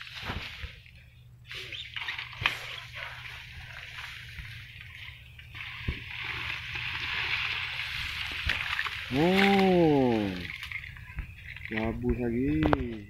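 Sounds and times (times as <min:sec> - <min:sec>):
fish thrashing in water: 0:01.5 - 0:12.0.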